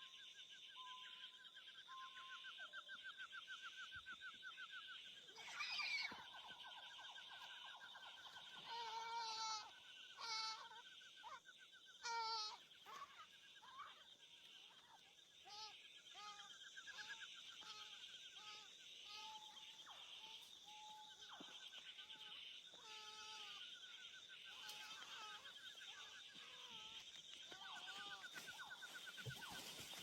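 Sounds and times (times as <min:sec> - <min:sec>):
animal high wavering calls: 0:05.2 - 0:30.0.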